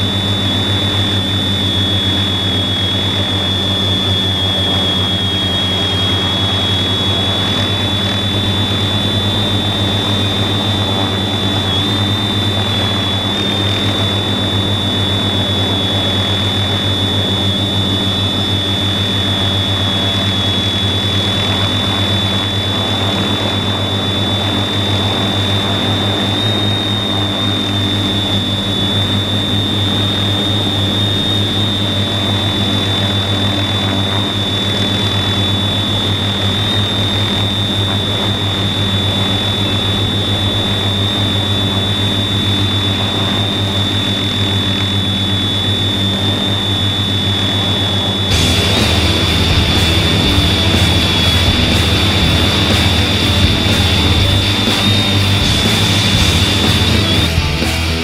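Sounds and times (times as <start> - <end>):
quadcopter motors humming: 0.0 - 58.0.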